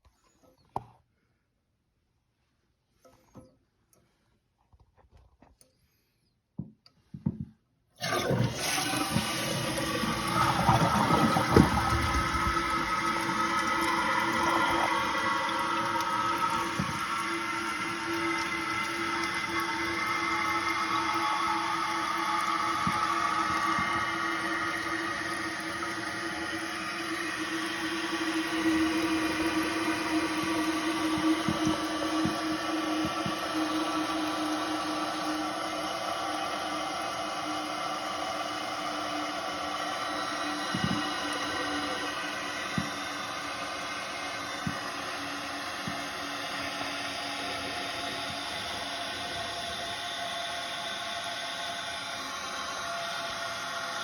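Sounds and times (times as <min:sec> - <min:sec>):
toilet tank refilling: 0:08.0 - 0:54.0.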